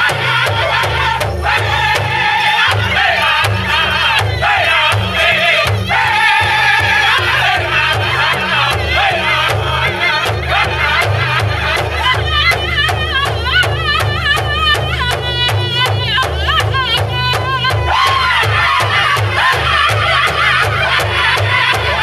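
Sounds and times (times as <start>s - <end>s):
big drum steady beat: 0.0s - 22.0s
men singing in high voices: 0.0s - 22.0s.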